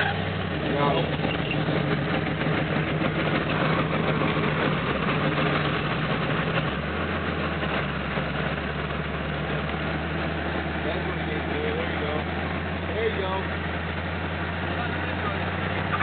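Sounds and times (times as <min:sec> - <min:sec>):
truck engine running at low revs: 0:00.0 - 0:16.0.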